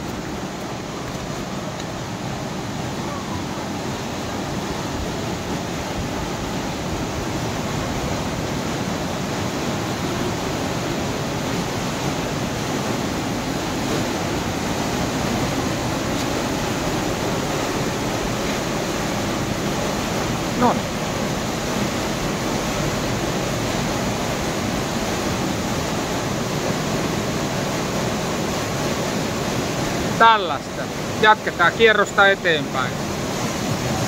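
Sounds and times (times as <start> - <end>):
waterfall rushing into pool: 0.0 - 34.0.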